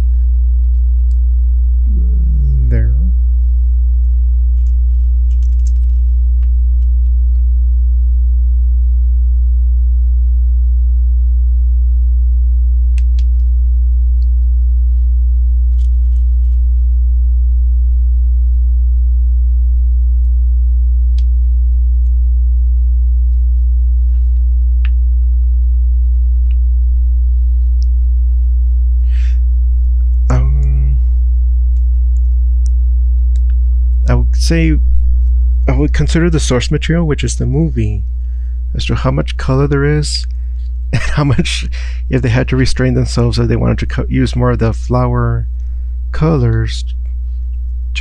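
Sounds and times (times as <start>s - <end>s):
loud steady low hum: 0.0s - 48.0s.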